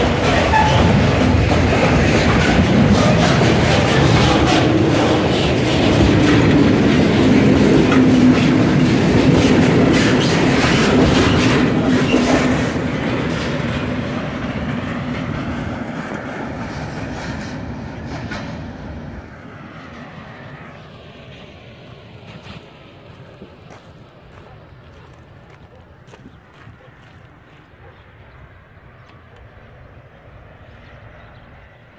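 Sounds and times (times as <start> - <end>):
train wheels clattering on rails: 0.0 - 19.3, 21.2 - 28.4.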